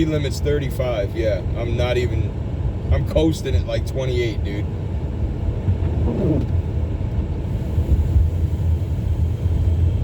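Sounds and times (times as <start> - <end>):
car tyres rumbling on snow: 0.0 - 10.0.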